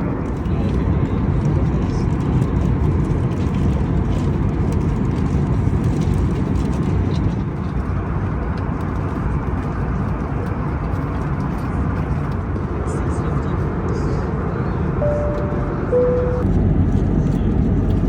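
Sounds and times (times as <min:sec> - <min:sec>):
airplane cabin rumble: 0:00.0 - 0:18.0.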